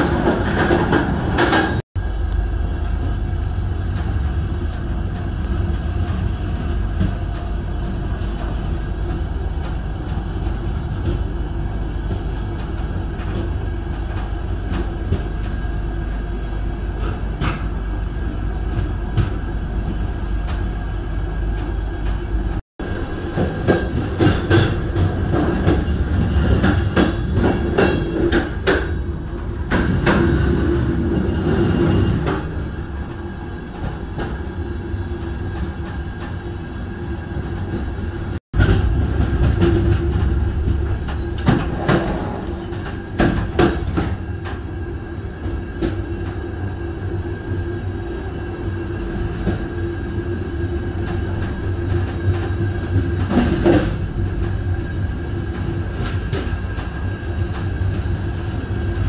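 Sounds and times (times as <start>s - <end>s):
train rumbling along track: 0.0s - 59.0s.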